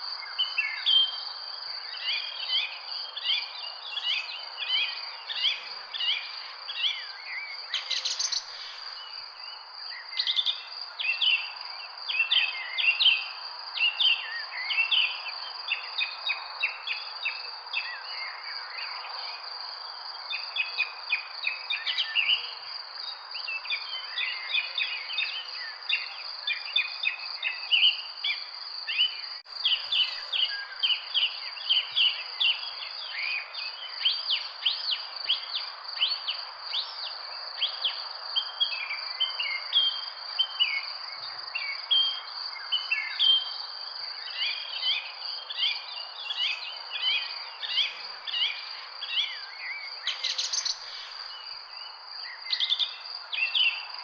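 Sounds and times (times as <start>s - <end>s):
small birds chirping: 0.0s - 19.0s, 23.1s - 54.0s.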